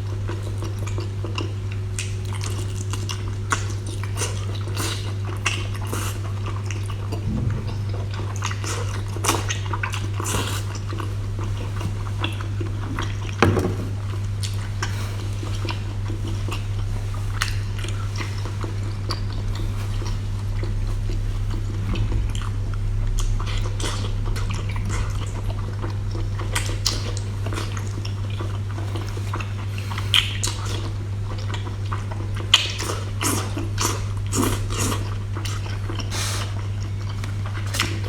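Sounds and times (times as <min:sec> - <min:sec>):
person chewing food: 0:00.0 - 0:38.0
steady low hum: 0:00.0 - 0:38.0.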